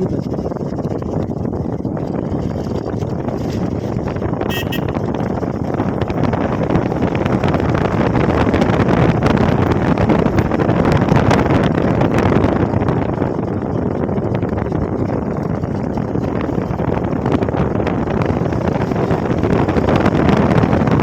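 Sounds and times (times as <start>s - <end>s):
motorcycle ride noise: 0.0s - 21.0s
wind rushing over microphone: 0.0s - 21.0s.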